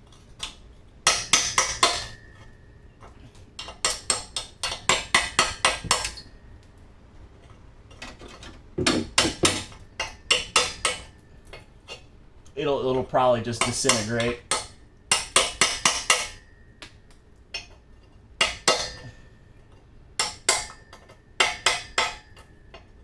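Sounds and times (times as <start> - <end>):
chisel striking metal: 0.4 - 6.6, 8.0 - 12.1, 13.5 - 23.0.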